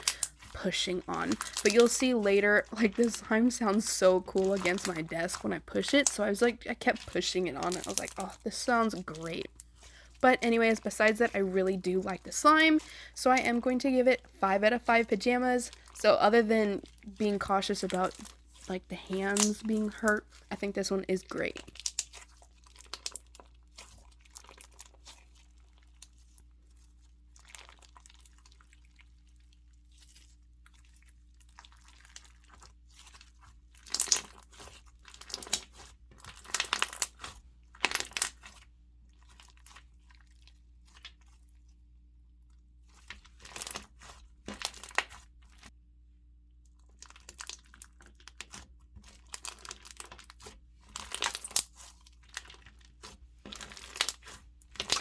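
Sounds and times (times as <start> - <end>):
slime crackling and popping: 0.0 - 9.8, 16.8 - 41.4, 42.9 - 45.7, 46.7 - 55.0.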